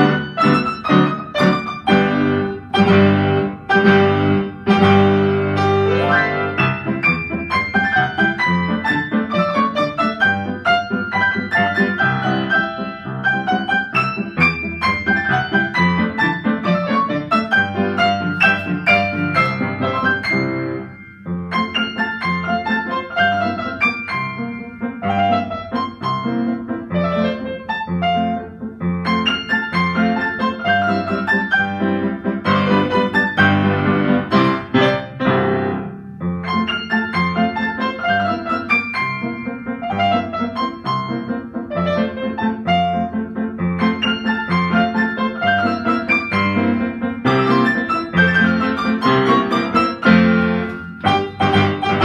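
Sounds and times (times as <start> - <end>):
piano duet: 0.0 - 52.0.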